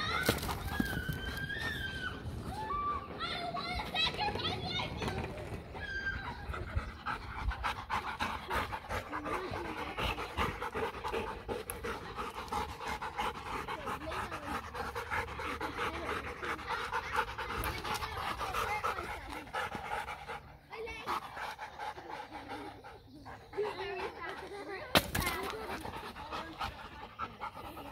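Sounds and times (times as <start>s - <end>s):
dogs panting: 0.0s - 27.9s.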